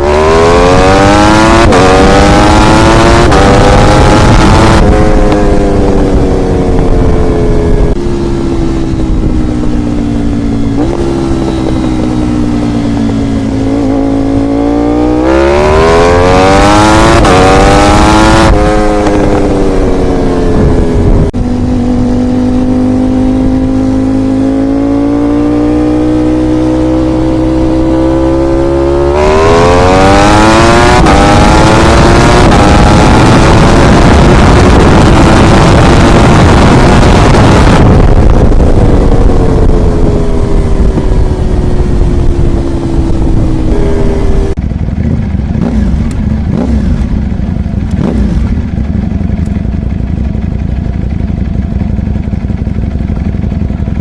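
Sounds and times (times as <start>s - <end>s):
motorcycle engine revving and shifting: 0.0s - 54.0s.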